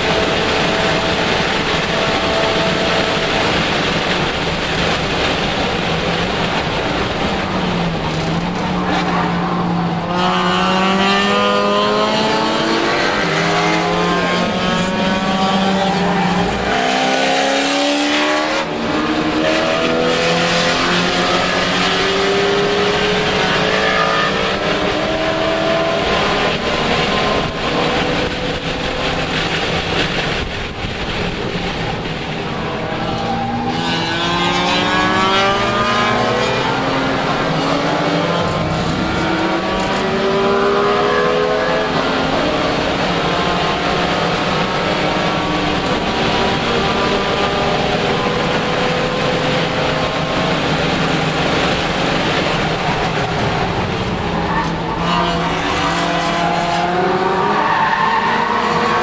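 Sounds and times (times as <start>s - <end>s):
race car engine revving: 0.0s - 59.0s
road noise: 0.0s - 59.0s.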